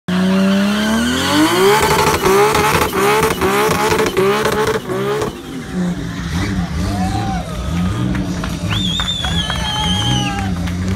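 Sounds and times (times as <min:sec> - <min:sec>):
car engine revving hard: 0:00.1 - 0:10.9.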